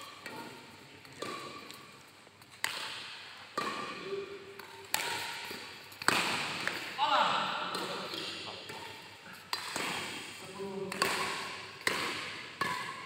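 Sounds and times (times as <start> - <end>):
racket hitting shuttlecock: 0.0 - 13.0.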